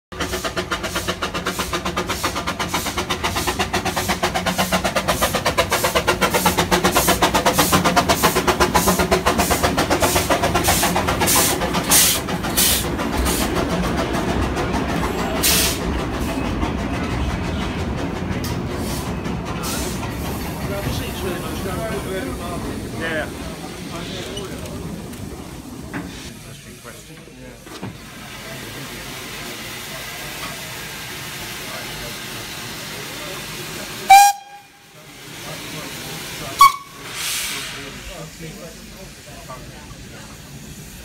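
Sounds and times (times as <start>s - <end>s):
steam locomotive chuffing: 0.1s - 41.0s
steam hisses: 0.2s - 14.4s, 15.2s - 16.4s, 18.6s - 41.0s.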